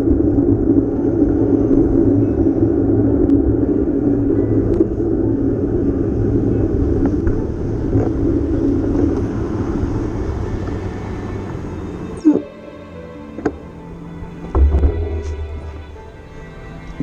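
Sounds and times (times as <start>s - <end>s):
bicycle tyres on road: 0.0s - 17.0s.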